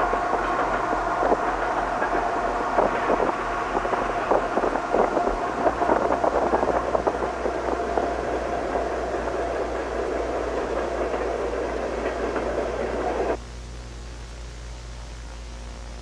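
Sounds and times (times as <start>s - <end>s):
steady rushing noise: 0.0s - 13.4s
faint hiss: 0.0s - 16.0s
low hum: 0.0s - 16.0s.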